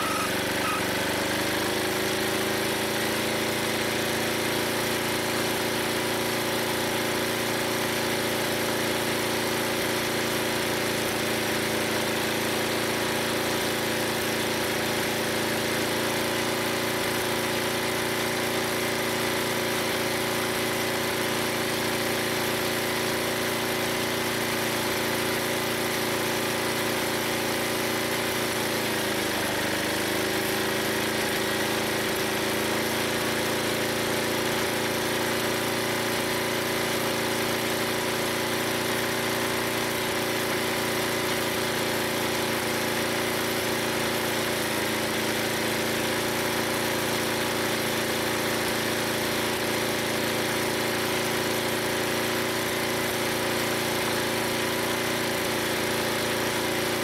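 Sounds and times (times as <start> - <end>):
gas engine running: 0.0 - 57.0.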